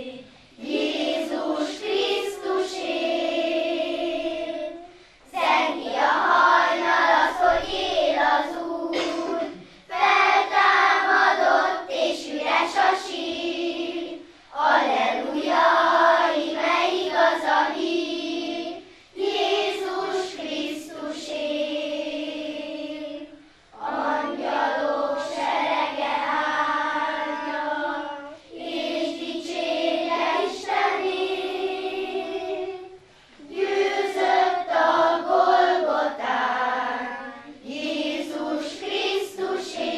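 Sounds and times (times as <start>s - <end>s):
girls choir singing: 0.0s - 39.9s.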